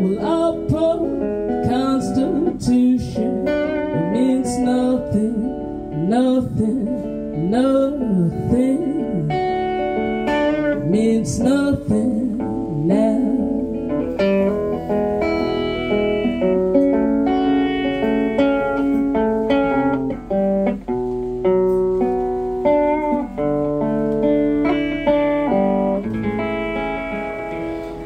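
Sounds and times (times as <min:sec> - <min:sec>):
acoustic guitar fingerpicking: 0:00.0 - 0:28.0.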